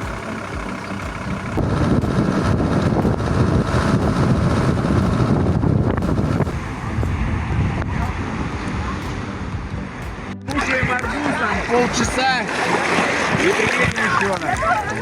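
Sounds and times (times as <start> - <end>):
minibus engine and road noise: 0.0 - 15.0
wind buffeting microphone: 0.0 - 15.0.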